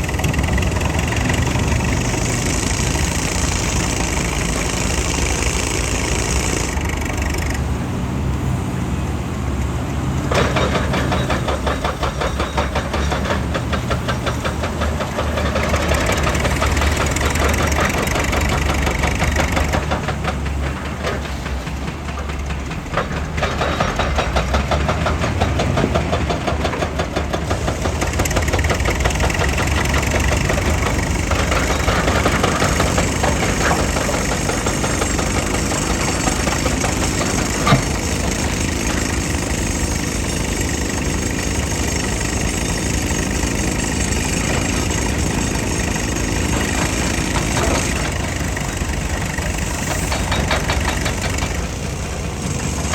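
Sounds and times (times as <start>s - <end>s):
heavy diesel engine running: 0.0s - 52.9s.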